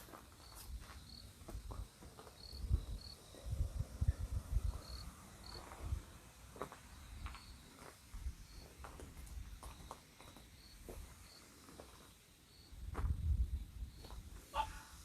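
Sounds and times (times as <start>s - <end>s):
cricket chirping: 0.1s - 15.0s.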